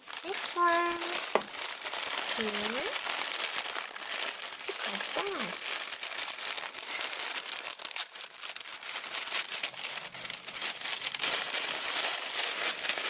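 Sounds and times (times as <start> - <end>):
foil packaging crinkling and tearing: 0.0 - 13.0.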